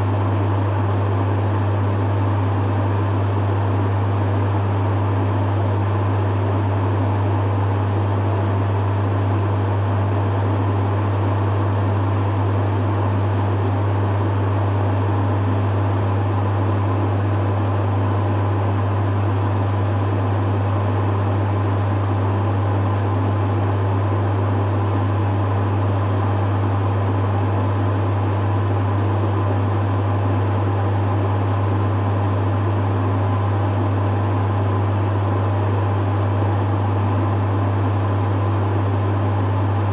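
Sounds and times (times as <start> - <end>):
dehumidifier humming: 0.0 - 39.9.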